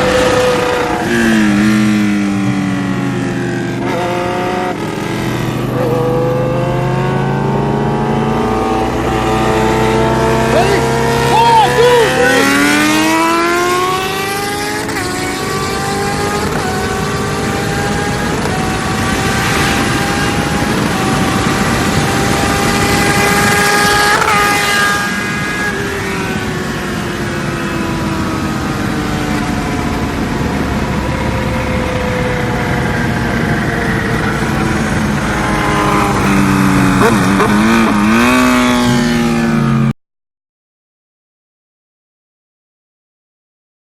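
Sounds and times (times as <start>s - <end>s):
engine revving through gear changes: 0.0s - 27.1s, 27.8s - 39.9s.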